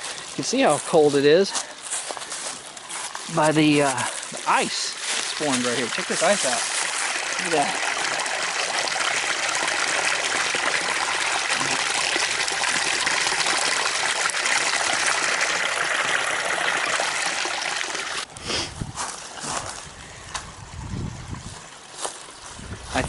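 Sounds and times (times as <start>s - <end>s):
stream running over rocks: 0.0s - 18.3s, 20.3s - 23.0s.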